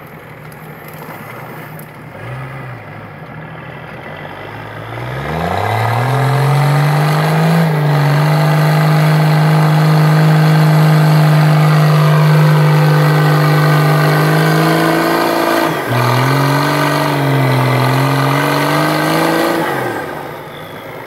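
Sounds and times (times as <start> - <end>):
diesel engine revving under load: 0.8 - 21.0.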